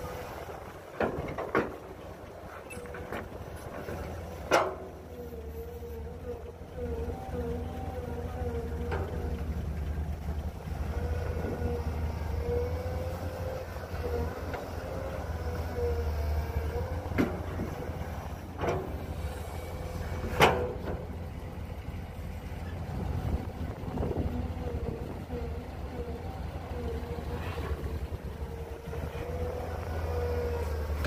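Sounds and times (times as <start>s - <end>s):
diesel engines rumbling: 0.0s - 31.0s.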